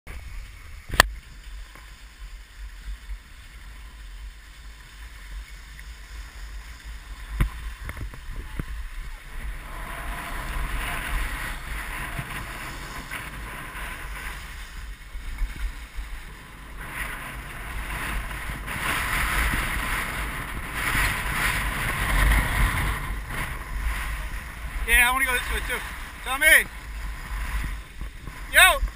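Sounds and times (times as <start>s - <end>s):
wind rumbling on microphone: 0.1s - 28.9s
skis scraping over snow: 0.2s - 28.9s.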